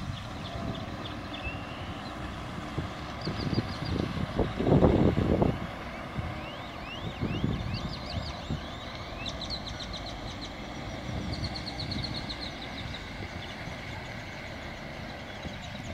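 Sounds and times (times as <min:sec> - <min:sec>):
small birds singing: 0:00.0 - 0:04.6, 0:05.8 - 0:15.9
wind buffeting microphone: 0:00.0 - 0:15.9.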